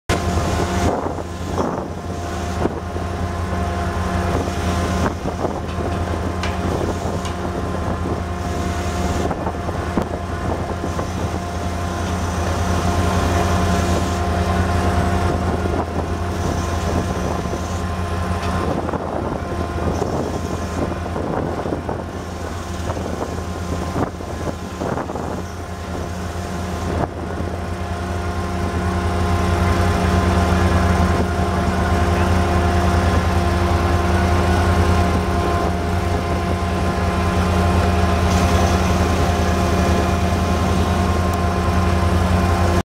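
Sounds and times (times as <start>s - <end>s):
constant whine: 0.1s - 42.8s
diesel engine running: 0.1s - 42.8s.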